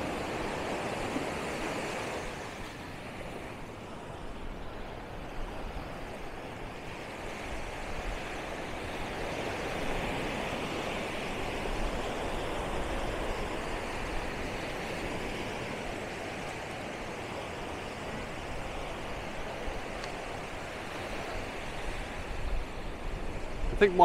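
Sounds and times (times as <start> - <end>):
small waves on sandy beach: 0.0 - 24.0.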